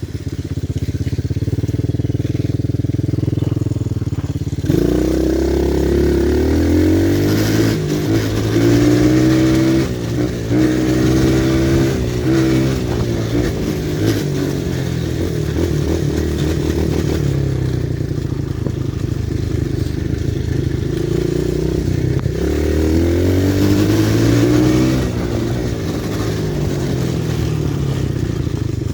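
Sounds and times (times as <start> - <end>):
small motorbike engine revving: 0.0 - 28.9.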